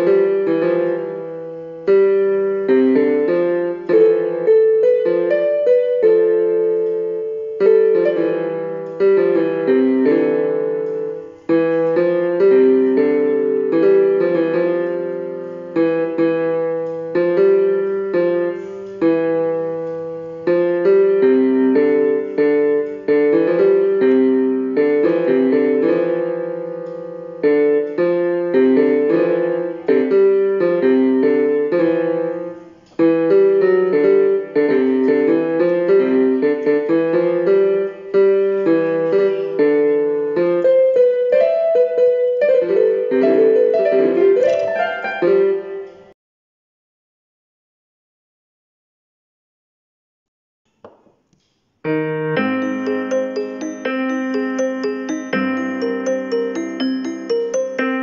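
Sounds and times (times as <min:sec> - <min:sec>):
solo piano melody: 0:00.0 - 0:46.2, 0:51.8 - 0:58.0.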